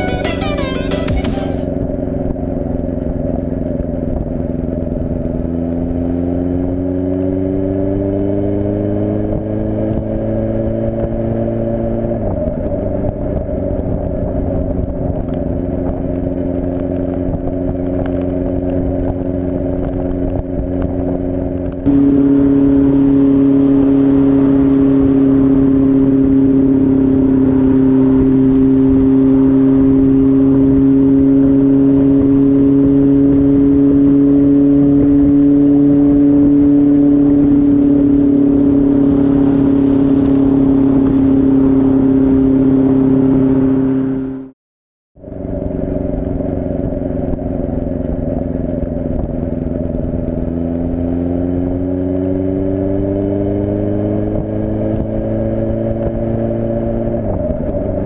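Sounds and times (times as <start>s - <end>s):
motorcycle engine running: 0.0s - 44.5s, 45.2s - 58.0s.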